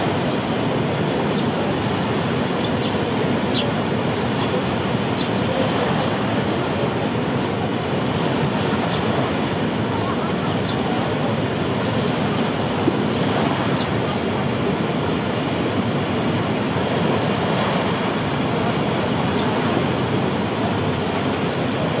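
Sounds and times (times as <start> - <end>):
waterfall and river rushing: 0.0 - 22.0.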